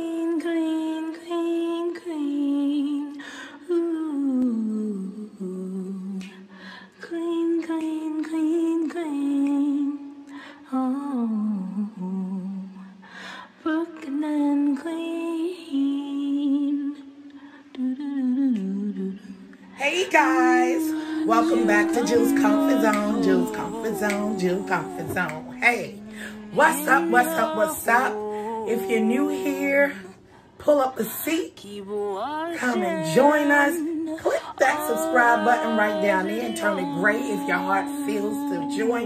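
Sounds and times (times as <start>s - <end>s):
young woman singing: 0.0s - 39.0s.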